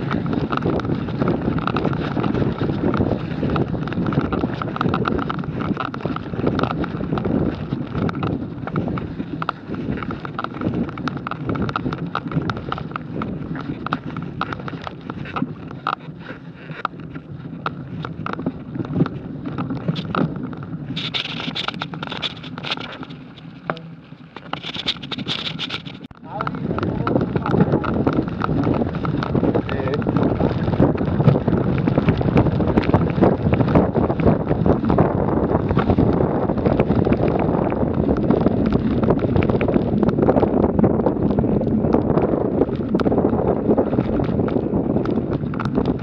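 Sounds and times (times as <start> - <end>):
bike rattling: 0.0 - 46.0
bike tyres crackling through leaves: 0.0 - 46.0
wind on microphone: 0.0 - 46.0.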